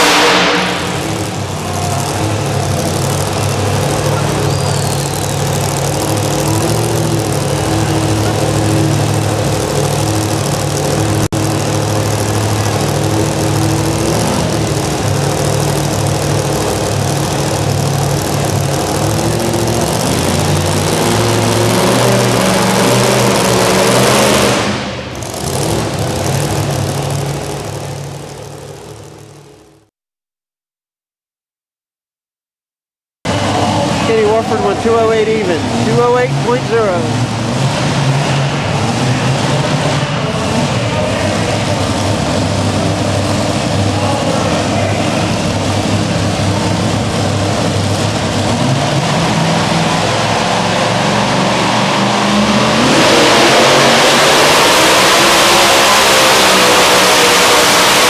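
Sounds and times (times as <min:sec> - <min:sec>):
supercharged engine idling: 0:00.0 - 0:29.9, 0:33.3 - 0:58.0.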